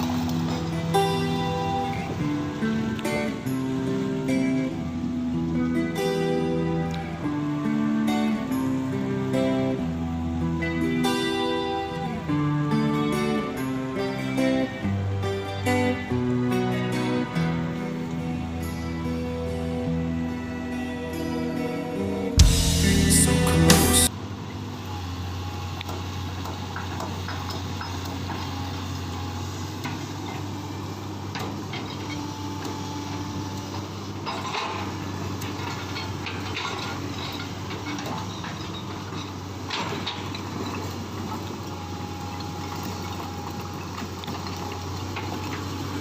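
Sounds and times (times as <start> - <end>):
excavator diesel engine humming: 0.0 - 46.0.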